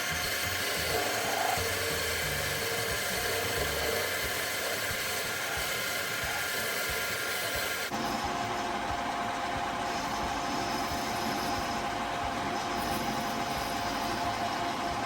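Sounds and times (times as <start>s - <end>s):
lathe whine: 0.0s - 15.0s.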